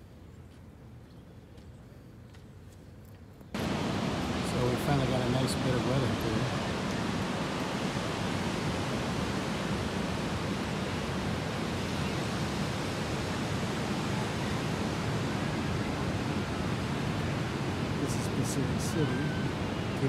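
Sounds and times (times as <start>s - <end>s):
ocean surf breaking on beach: 3.6s - 20.0s.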